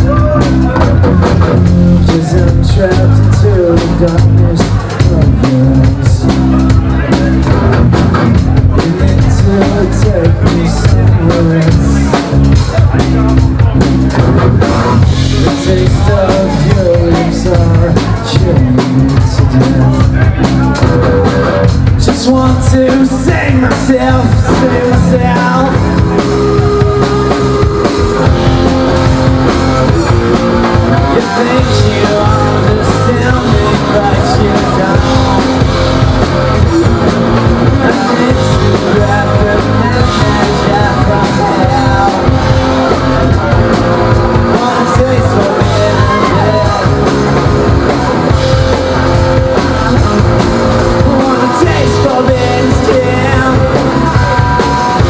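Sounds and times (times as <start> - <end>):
person singing: 0.0 - 55.0
rock band playing live: 0.0 - 55.0.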